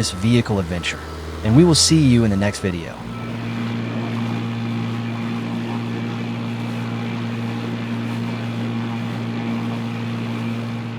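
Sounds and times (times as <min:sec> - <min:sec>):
engine drone: 0:00.0 - 0:10.9.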